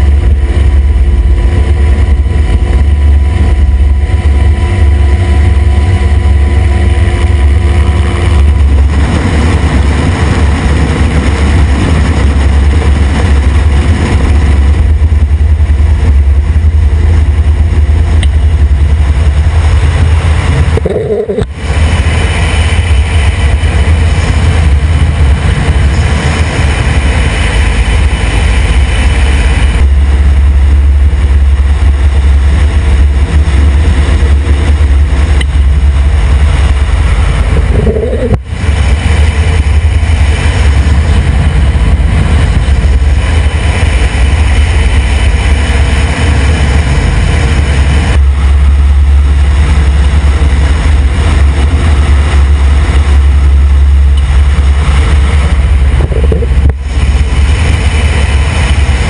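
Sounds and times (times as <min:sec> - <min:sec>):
helicopter rotor drone: 0:00.0 - 0:59.0
turbine engine whine: 0:00.0 - 0:59.0.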